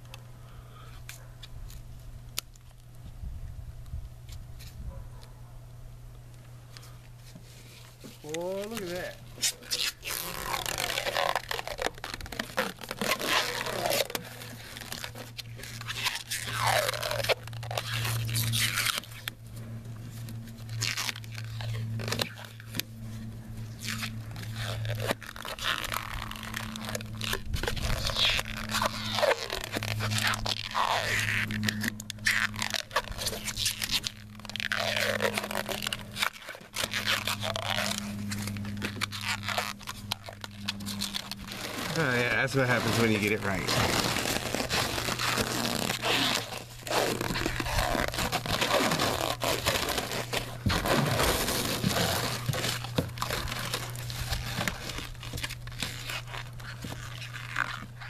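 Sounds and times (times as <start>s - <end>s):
steady low hum: 0.0s - 58.0s
rubber film peeling off: 6.7s - 58.0s.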